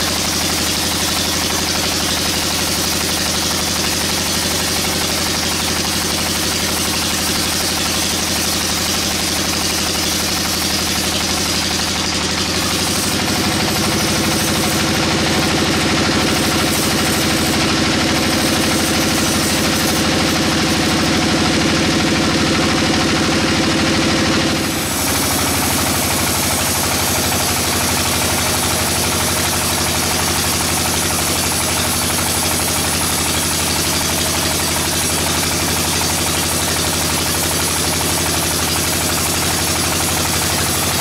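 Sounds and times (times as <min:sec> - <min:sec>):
band saw cutting log: 0:00.0 - 0:41.0.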